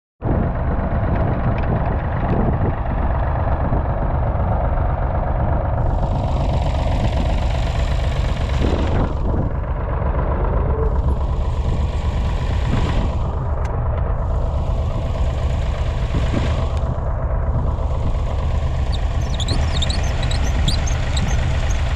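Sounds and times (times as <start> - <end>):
diesel tractor engine running: 0.2 - 21.9.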